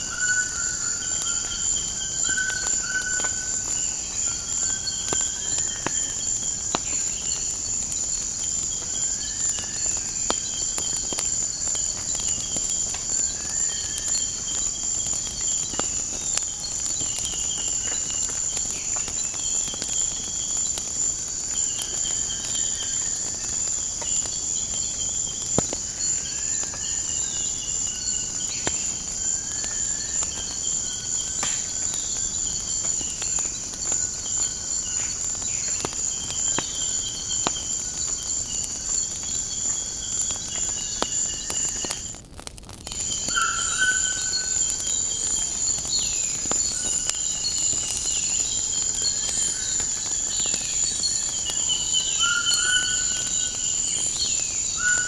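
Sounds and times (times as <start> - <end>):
insect chorus: 0.0 - 55.0
wood fire crackling: 0.0 - 55.0.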